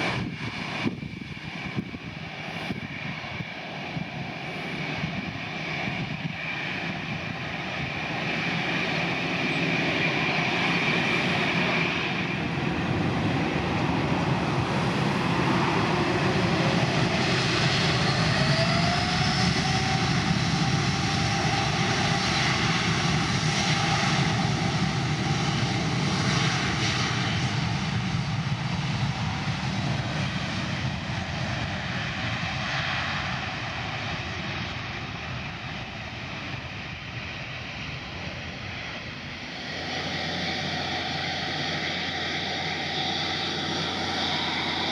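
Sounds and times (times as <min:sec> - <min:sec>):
airplane passing close by: 0:00.0 - 0:44.9.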